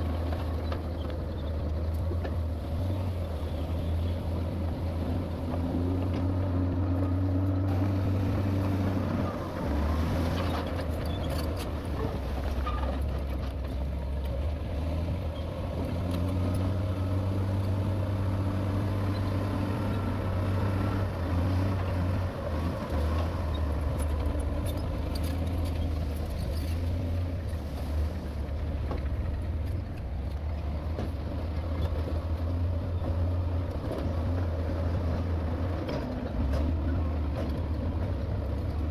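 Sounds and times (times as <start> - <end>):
heavy diesel engine under load: 0.0 - 38.9.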